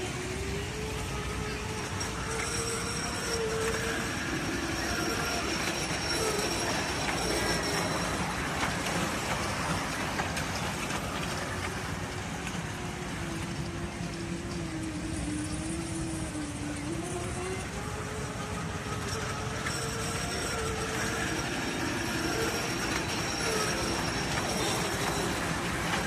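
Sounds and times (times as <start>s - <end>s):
faint wavering wheel squeal: 0.0s - 26.0s
ride-on train rattling on track: 0.0s - 26.0s.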